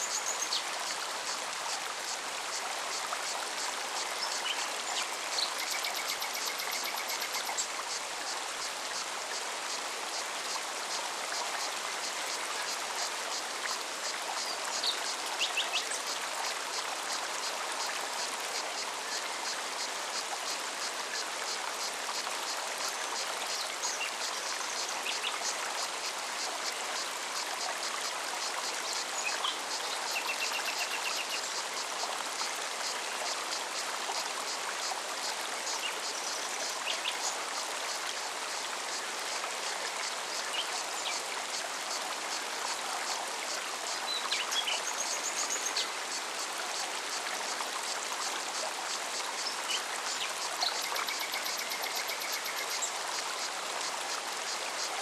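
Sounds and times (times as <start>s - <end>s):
stream running: 0.0s - 55.0s.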